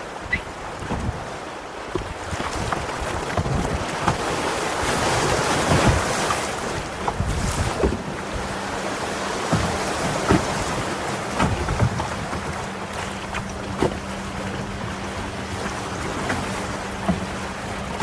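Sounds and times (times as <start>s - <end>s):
river water rushing: 0.0s - 18.0s
wind buffeting microphone: 0.0s - 18.0s.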